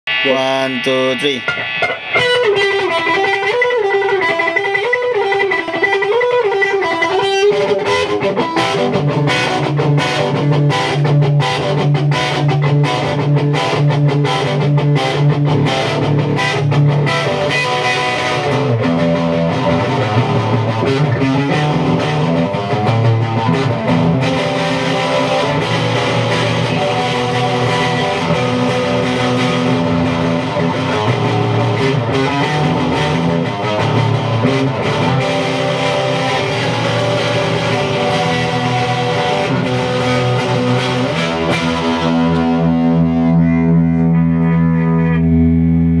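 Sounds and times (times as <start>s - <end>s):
electric guitar solo: 0.1s - 46.0s.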